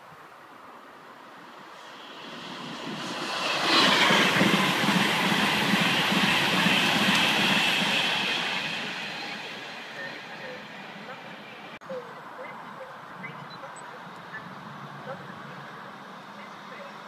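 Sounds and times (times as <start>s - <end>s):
train passing at speed: 0.7s - 17.0s.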